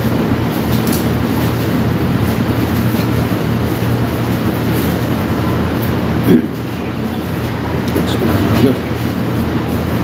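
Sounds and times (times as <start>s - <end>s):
machine rumbling hum: 0.0s - 10.0s.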